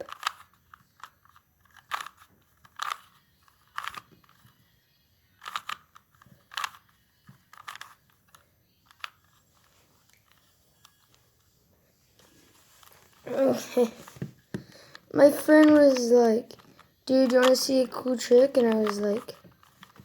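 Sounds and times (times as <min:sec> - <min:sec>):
puzzle cube clacking rattles: 0:00.0 - 0:04.5, 0:05.4 - 0:11.2, 0:12.8 - 0:20.0.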